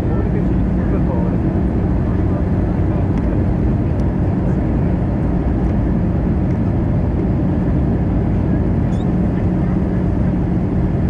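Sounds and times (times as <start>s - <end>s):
aircraft cabin engine and airflow rush: 0.0s - 11.0s
constant low hum: 0.0s - 11.0s.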